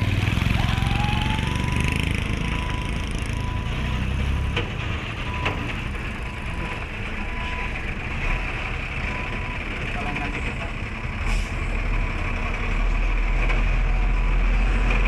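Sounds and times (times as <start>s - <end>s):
truck engines idling: 0.0s - 15.0s.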